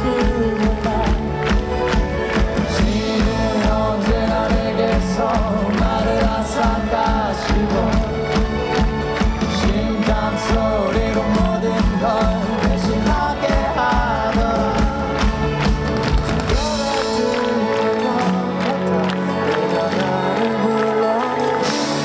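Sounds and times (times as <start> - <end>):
man singing: 0.0 - 1.9, 2.6 - 15.7, 16.4 - 22.0
drum kit: 0.0 - 19.0
electric guitar: 0.0 - 22.0.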